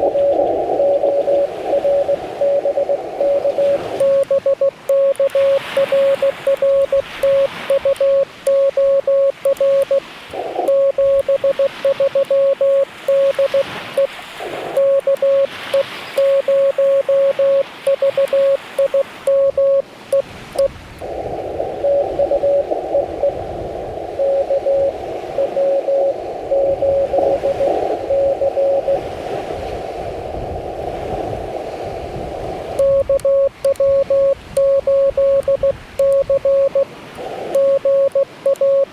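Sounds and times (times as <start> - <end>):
morse code tone: 0.0 - 20.7, 21.8 - 23.4, 24.2 - 29.0, 32.8 - 36.9, 37.5 - 38.9
faint morse code: 0.0 - 20.8, 21.8 - 23.4, 24.1 - 29.0, 32.8 - 38.9
radio receiver hiss: 0.0 - 29.1, 32.6 - 38.9.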